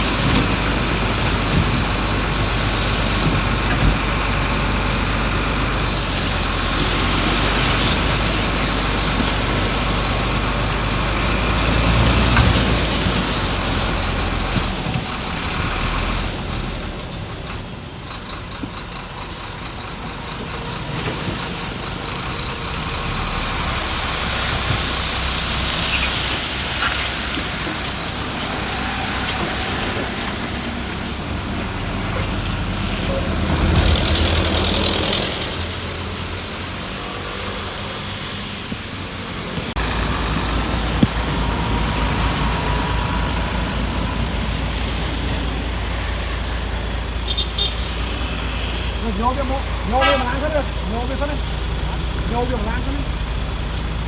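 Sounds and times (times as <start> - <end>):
heavy diesel machinery rumbling: 0.0 - 54.0.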